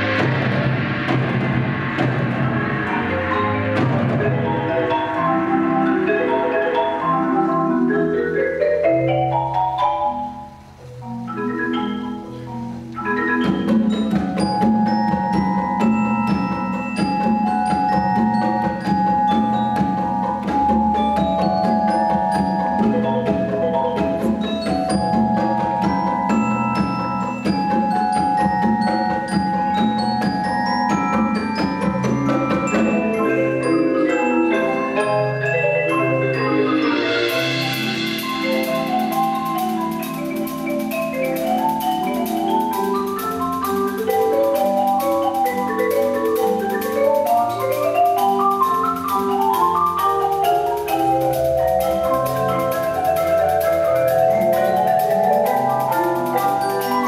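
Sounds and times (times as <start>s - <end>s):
marimba ensemble: 0.0s - 57.0s.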